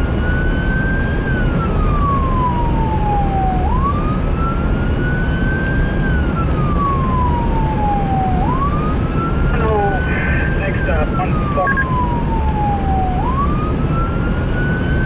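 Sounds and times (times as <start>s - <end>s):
emergency siren wailing: 0.0s - 15.0s
vehicle engine and road rumble: 0.0s - 15.0s.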